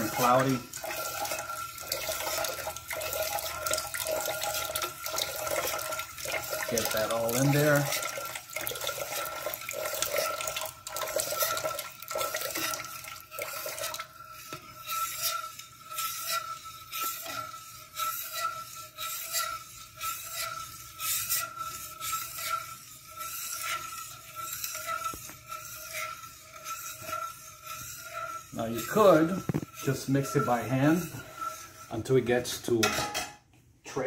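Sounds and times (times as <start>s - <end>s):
liquid swishing: 0.0s - 32.9s
spoon scraping metal pot: 0.0s - 33.4s.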